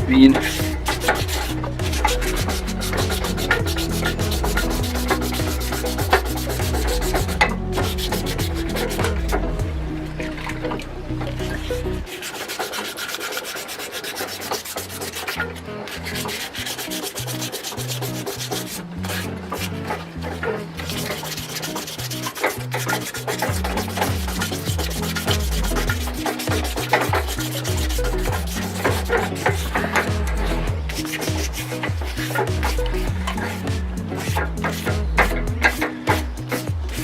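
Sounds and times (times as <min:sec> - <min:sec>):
sandpaper scratching on metal: 0:00.0 - 0:09.3, 0:12.0 - 0:37.0.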